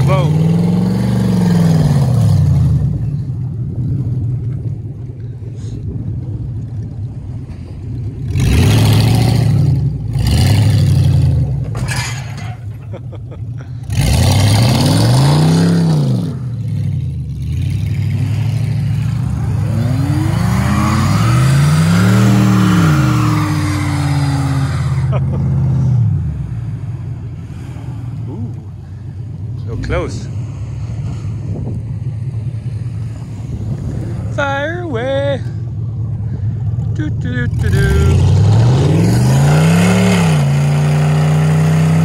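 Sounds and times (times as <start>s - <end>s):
vehicle engines revving: 0.0s - 42.0s.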